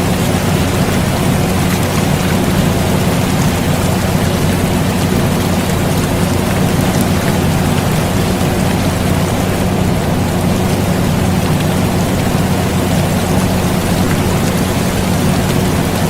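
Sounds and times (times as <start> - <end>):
air conditioner humming: 0.0 - 16.0
steady rain: 0.0 - 16.0.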